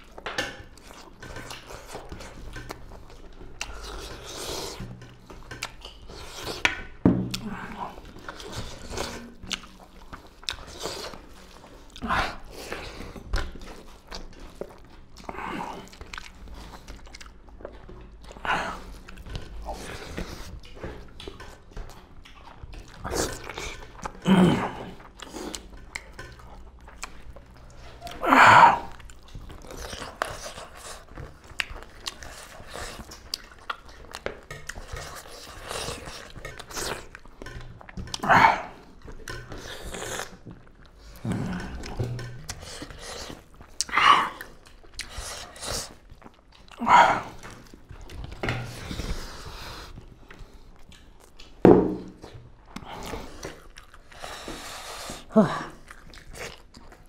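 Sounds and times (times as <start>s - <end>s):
chewing and mouth noises: 0.0s - 57.0s.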